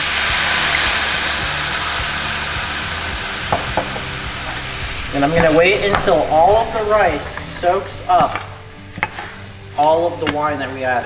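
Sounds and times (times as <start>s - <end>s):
wine sizzling in hot pan: 0.0s - 11.0s.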